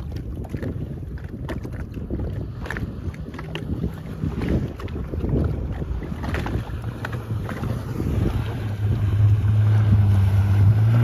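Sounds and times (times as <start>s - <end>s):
jet ski engine droning: 0.0s - 11.0s
wind buffeting microphone: 0.0s - 11.0s.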